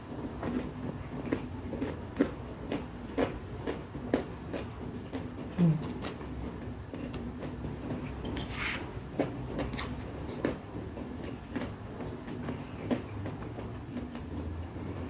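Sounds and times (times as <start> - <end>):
food crunching: 0.3 - 14.6.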